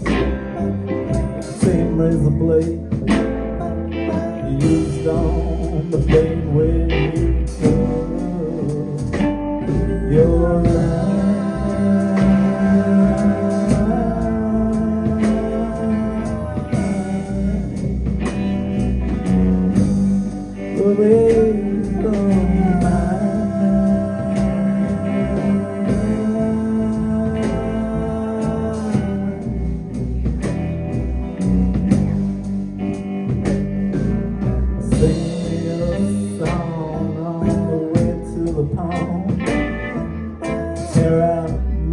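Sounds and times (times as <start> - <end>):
live band guitar over beat: 0.0 - 41.9.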